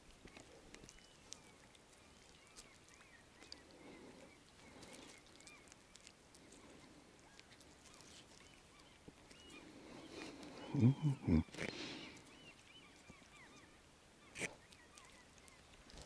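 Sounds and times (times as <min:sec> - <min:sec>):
distant birds chirping: 0:00.3 - 0:15.8.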